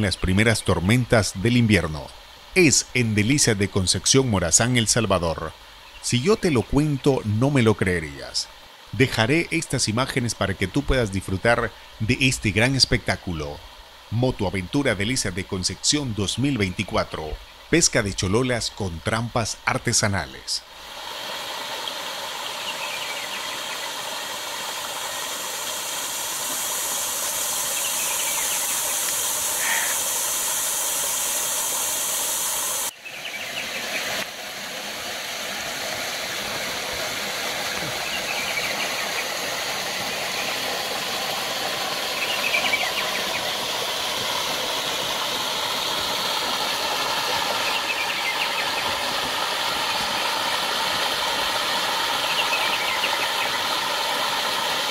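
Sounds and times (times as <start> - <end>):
creek water pouring into pool: 0.0 - 54.9.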